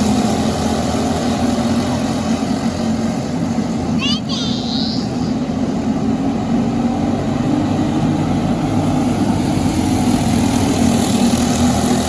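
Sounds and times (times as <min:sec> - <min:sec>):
kart engine drone: 0:00.0 - 0:12.0.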